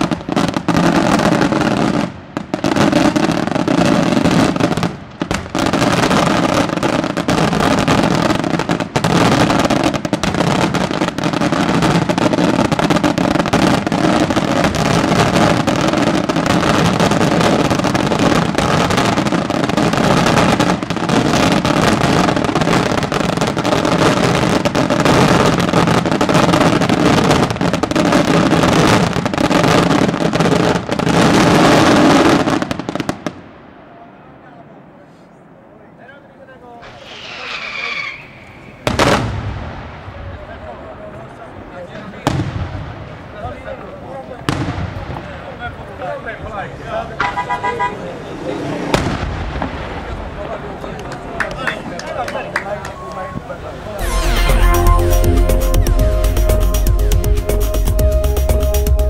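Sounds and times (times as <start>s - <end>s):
fireworks barrage: 0.0s - 59.0s.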